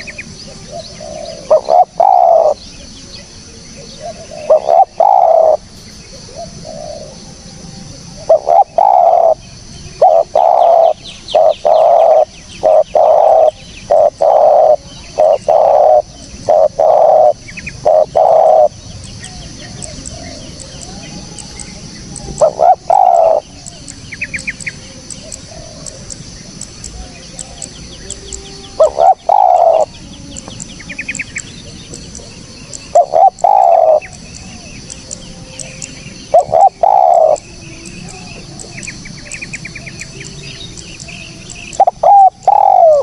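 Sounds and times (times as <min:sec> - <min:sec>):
dove cooing: 0:00.0 - 0:43.0
small birds chirping: 0:00.0 - 0:43.0.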